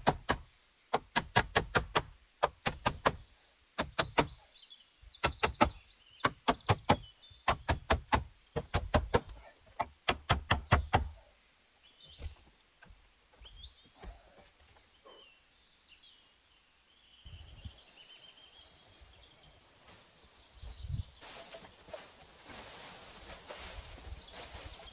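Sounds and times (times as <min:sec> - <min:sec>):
small birds chirping faintly: 0:00.0 - 0:24.9.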